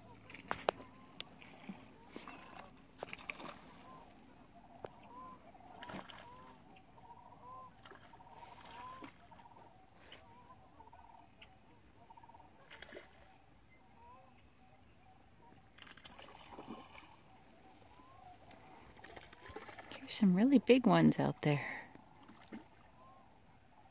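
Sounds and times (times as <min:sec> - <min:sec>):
distant cranes calling: 0:00.0 - 0:23.9.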